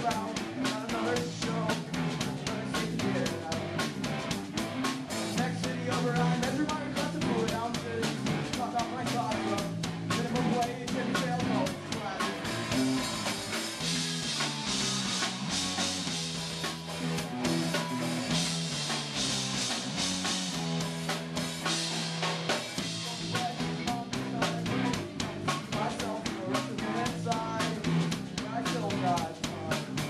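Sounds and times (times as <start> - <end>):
punk rock band playing live: 0.0 - 30.0.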